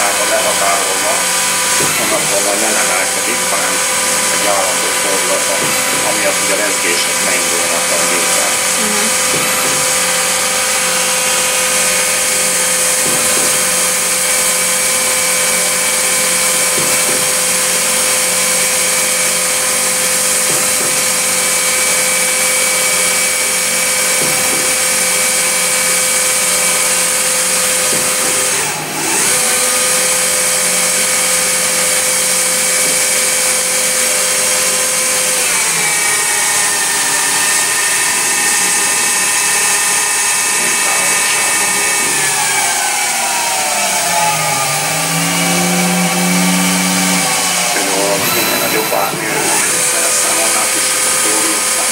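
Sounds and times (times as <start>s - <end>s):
lathe whine: 0.0s - 51.9s.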